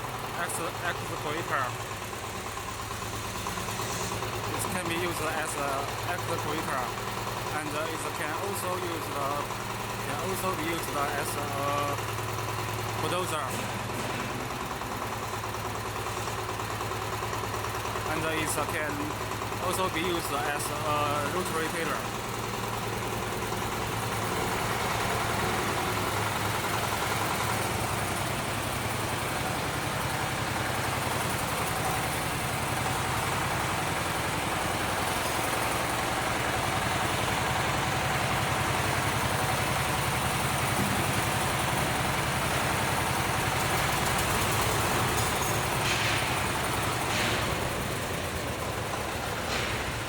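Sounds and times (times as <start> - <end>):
small cultivator engine running: 0.0 - 50.0.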